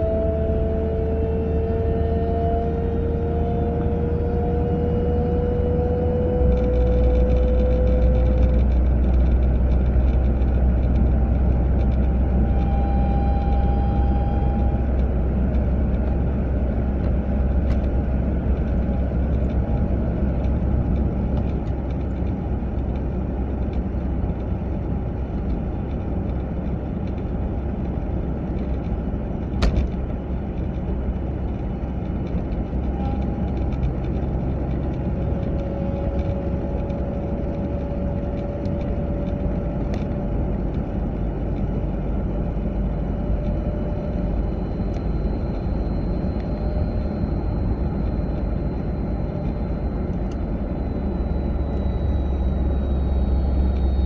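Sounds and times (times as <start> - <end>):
car road rumble: 0.0 - 54.0
faint whine: 0.0 - 54.0.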